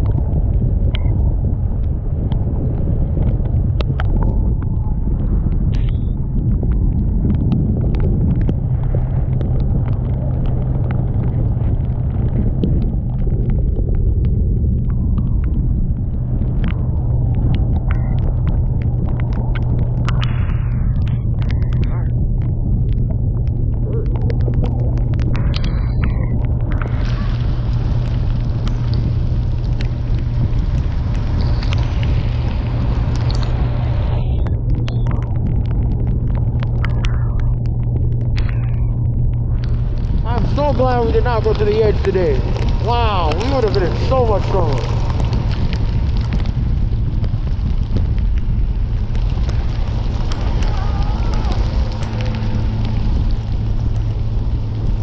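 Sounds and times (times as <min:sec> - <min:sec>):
heavy rain: 0:00.0 - 0:55.0
raindrop ticks: 0:00.0 - 0:55.0
wind rush: 0:00.0 - 0:55.0.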